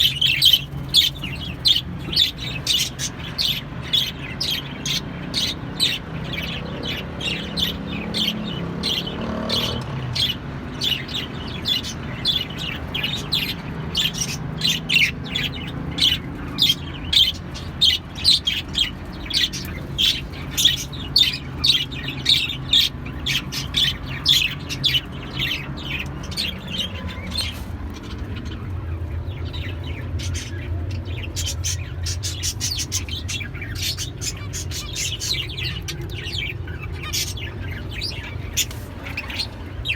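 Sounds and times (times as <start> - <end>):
pet birds chirping and squawking: 0.0 - 39.9.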